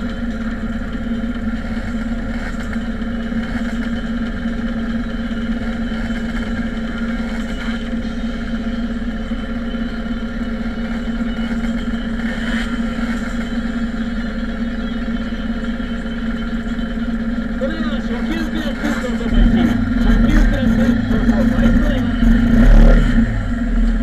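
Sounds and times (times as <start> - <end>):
motorcycle engines idling: 0.0 - 24.0.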